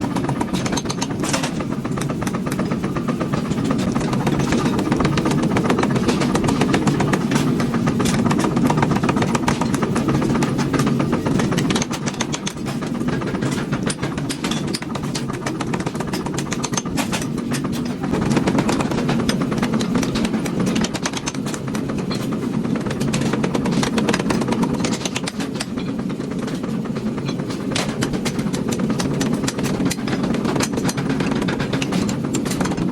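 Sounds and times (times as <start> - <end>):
machinery motor drone: 0.0 - 32.9.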